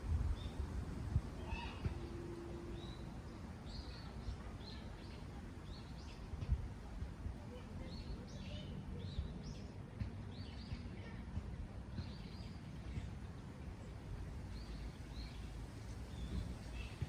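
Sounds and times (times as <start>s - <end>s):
small birds chirping: 0.3s - 0.8s, 1.4s - 6.9s, 7.5s - 17.0s.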